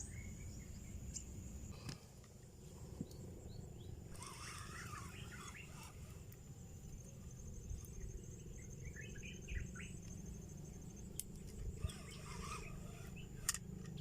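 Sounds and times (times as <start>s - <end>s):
high insect whine: 0.0s - 14.0s
small birds chirping: 0.0s - 14.0s.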